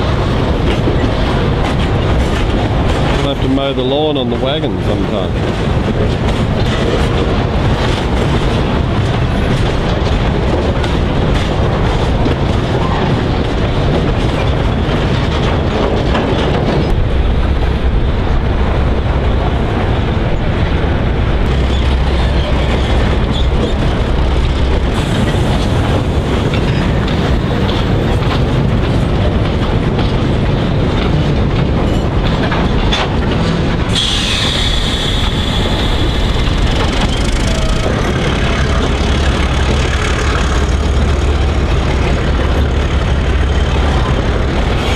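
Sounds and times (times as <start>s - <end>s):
train wagons rumbling: 0.0s - 44.9s
train wheels clattering over rail joints: 0.0s - 44.9s.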